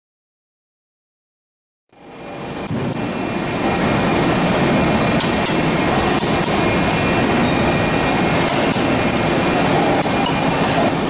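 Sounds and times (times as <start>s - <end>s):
workshop machine noise: 1.9s - 11.0s.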